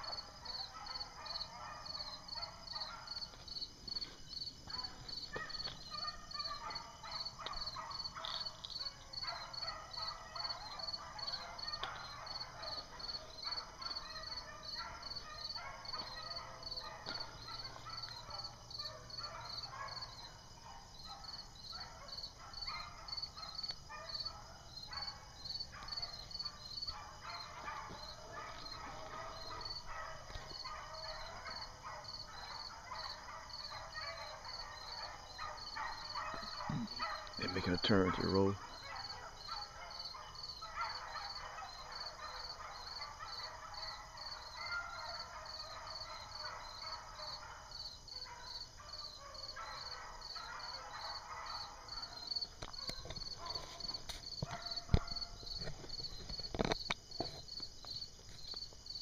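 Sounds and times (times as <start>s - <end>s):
distant dogs baying: 0.0s - 58.9s
high insect chirp: 0.0s - 59.0s.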